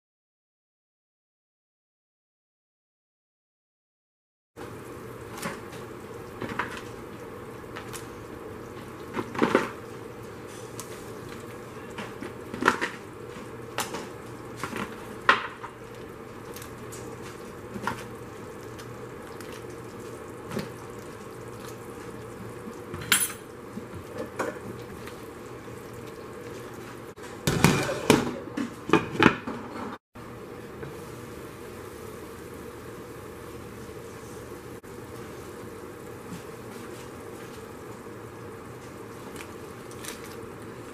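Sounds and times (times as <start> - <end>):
pot boiling with hiss: 4.6 - 40.9.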